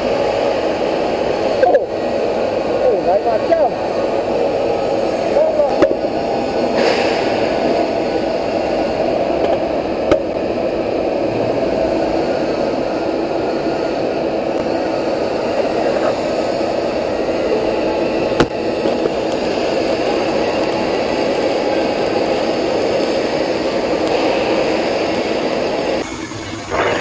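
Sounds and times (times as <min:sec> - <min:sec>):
welding arc hissing and crackling: 0:00.0 - 0:27.0.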